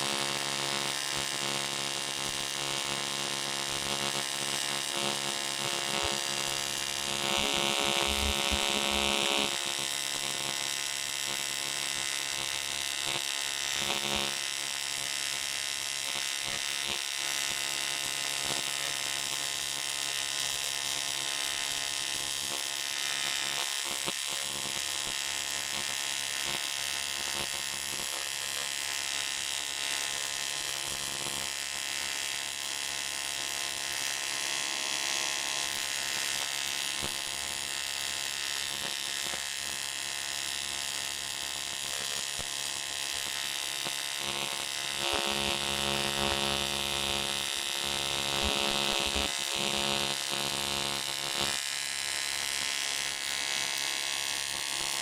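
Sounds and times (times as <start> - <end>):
welding arc buzzing: 0.0 - 55.0.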